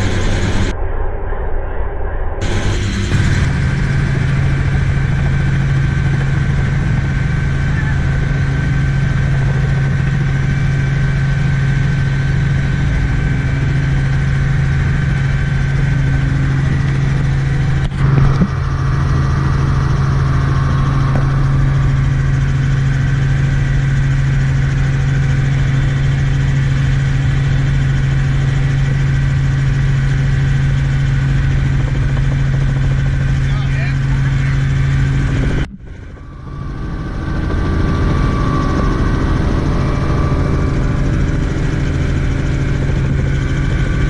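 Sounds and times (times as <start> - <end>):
helicopter engine and rotors: 0.0 - 44.0.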